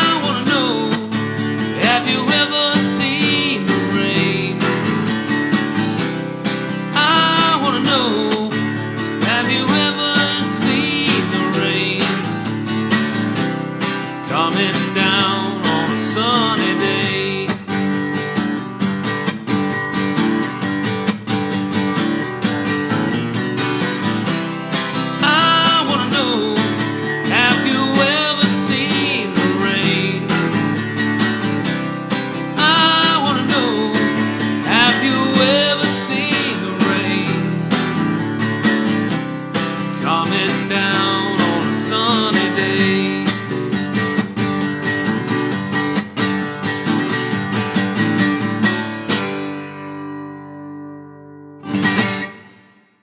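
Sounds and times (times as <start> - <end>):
acoustic guitar strumming: 0.0 - 53.0.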